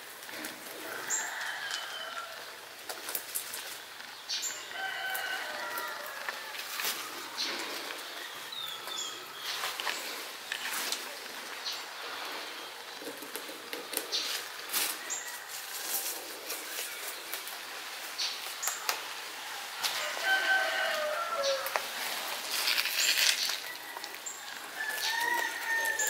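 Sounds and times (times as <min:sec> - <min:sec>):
leaves rustling: 0:00.0 - 0:26.0
rabbit chewing stems: 0:00.0 - 0:26.0.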